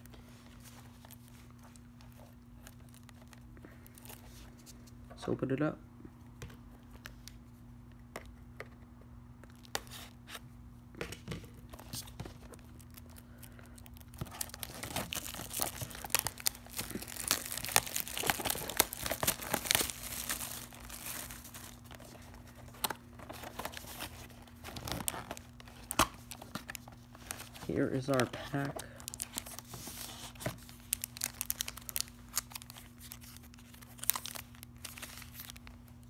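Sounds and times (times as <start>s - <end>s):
plastic wrap tearing and crinkling: 0.0s - 4.8s, 11.7s - 36.0s.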